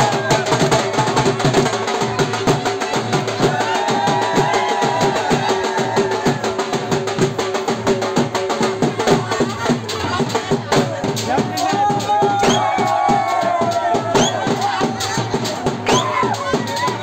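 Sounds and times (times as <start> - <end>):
drum-led dance music: 0.0 - 17.0.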